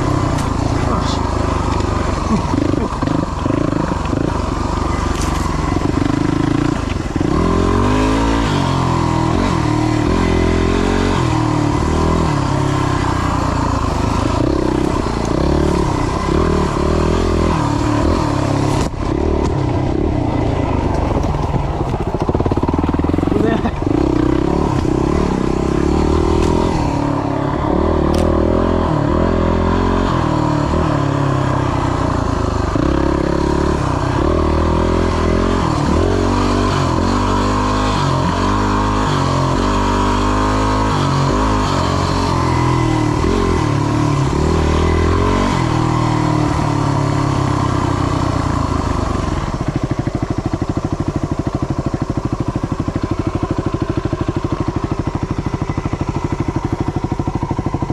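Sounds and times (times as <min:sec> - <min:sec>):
dirt bike engine revving: 0:00.0 - 0:49.8.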